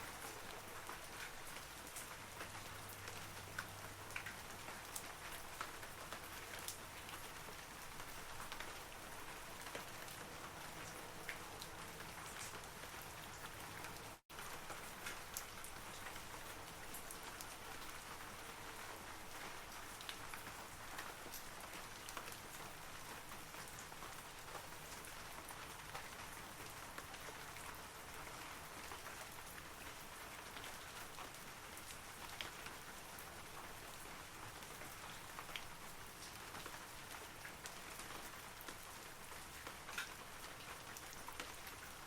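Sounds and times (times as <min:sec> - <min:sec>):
rain falling on trees: 0:00.0 - 0:42.0.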